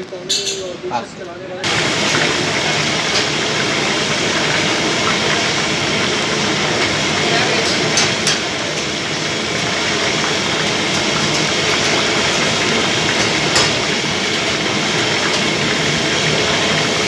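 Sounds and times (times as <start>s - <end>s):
hot oil sizzling in a wok: 0.0s - 17.0s.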